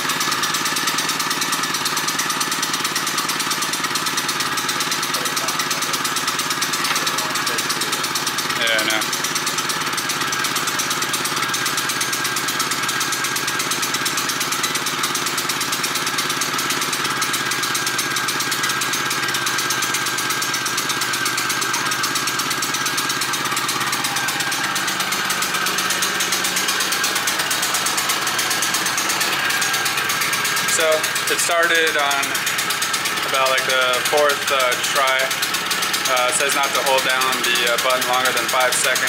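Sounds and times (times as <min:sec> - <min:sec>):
portable generator running: 0:00.0 - 0:39.0.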